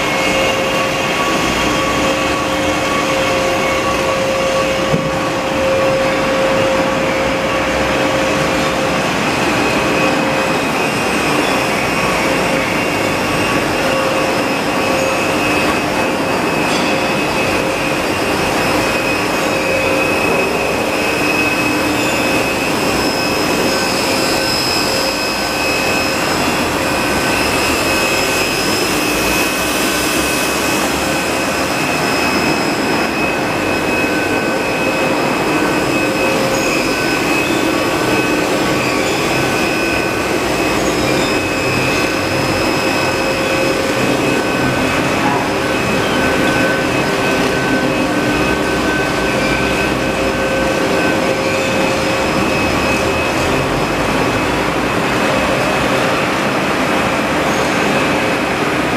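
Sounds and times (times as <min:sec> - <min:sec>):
factory machinery running: 0:00.0 - 0:58.9.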